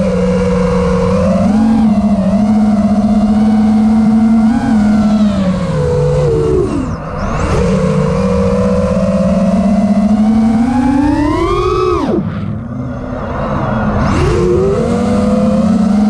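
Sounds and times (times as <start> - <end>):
drone motors buzzing whine: 0.0 - 16.0.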